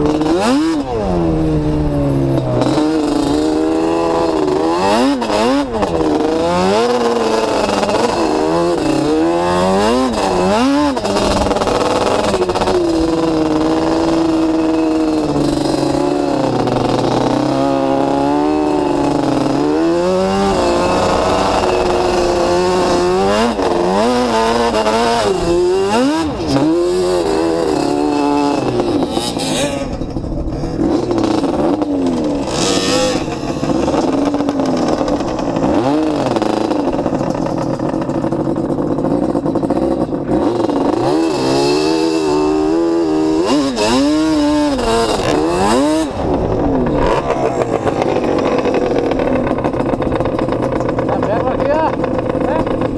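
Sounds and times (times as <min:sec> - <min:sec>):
off-road motorcycle engine revving: 0:00.0 - 0:52.9.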